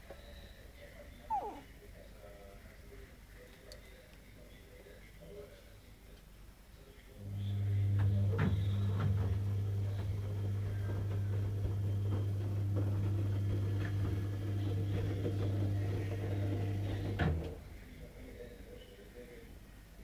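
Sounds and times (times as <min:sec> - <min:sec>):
steady low hum: 0:00.2 - 0:19.8.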